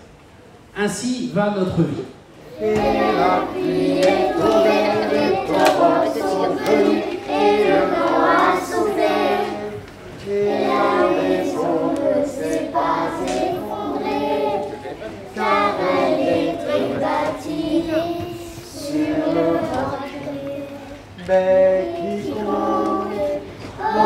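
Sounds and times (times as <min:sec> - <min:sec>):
children's choir singing: 0:02.4 - 0:24.0.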